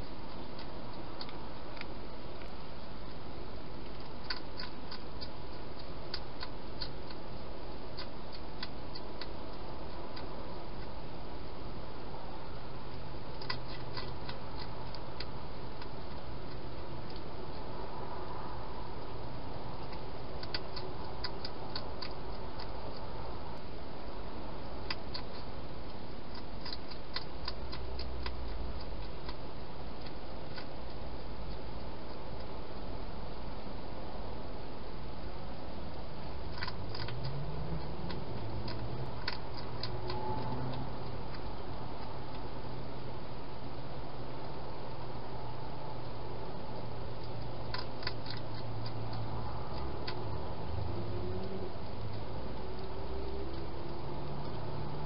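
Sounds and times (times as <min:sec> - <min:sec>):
hedgehog crunching dry food: 0:00.0 - 0:17.7, 0:19.0 - 0:34.1, 0:34.9 - 0:55.0.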